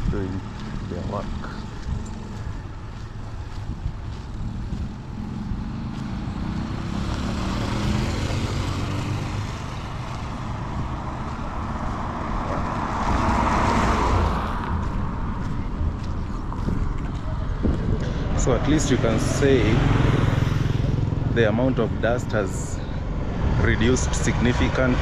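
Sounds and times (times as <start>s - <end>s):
road noise: 0.0s - 25.0s
vehicle engine running: 0.0s - 25.0s.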